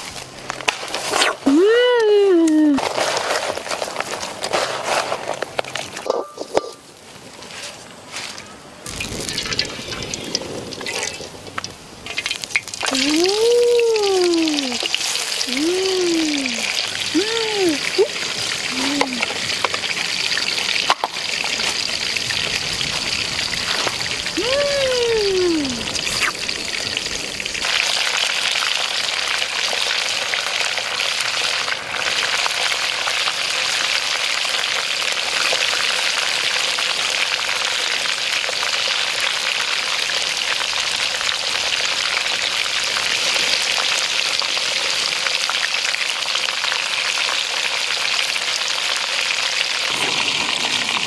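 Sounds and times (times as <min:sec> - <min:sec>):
chicken sizzling in hot oil: 0:08.9 - 0:51.0.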